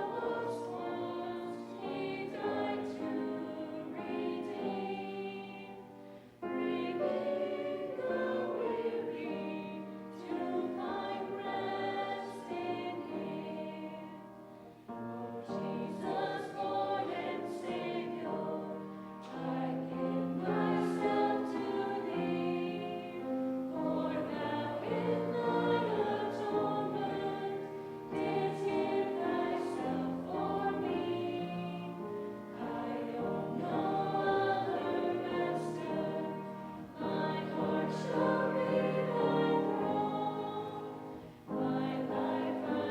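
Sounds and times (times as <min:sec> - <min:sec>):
choir singing sacred song: 0:00.0 - 0:42.9.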